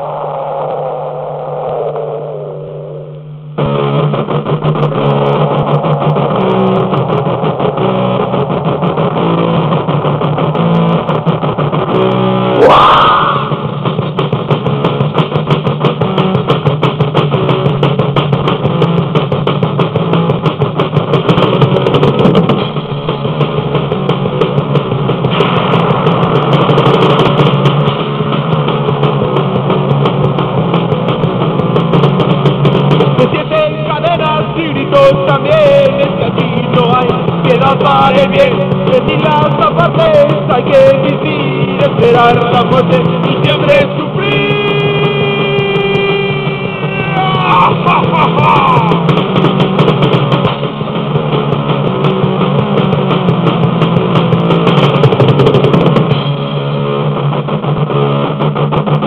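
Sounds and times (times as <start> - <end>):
rising guitar glide: 0.0 - 14.8, 22.1 - 57.4
muffled rock band recording: 0.0 - 59.0.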